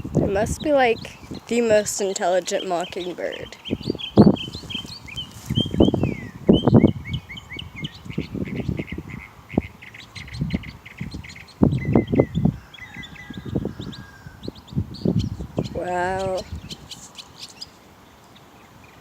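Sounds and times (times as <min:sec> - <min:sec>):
mockingbird singing: 0:00.0 - 0:19.0.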